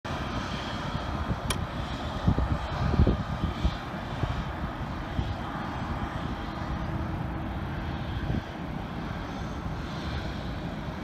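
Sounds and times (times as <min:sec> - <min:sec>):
jet engines rushing: 0:00.1 - 0:11.0.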